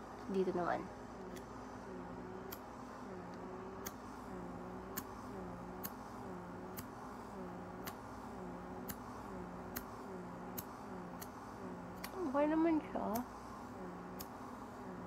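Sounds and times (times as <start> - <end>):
pore vacuum pump hum: 0.0 - 15.0.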